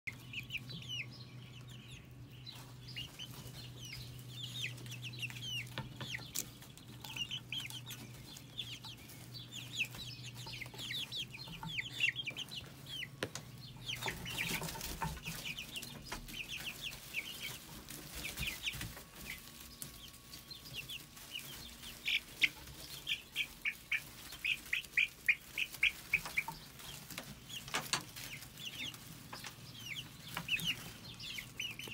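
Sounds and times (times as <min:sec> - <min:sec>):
chicks peeping: 0:00.1 - 0:31.9
low steady hum: 0:00.1 - 0:31.9.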